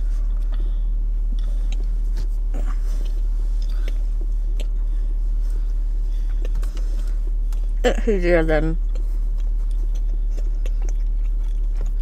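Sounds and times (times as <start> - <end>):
person chewing food: 0.0 - 7.8, 8.8 - 12.0
car interior hum: 0.0 - 12.0.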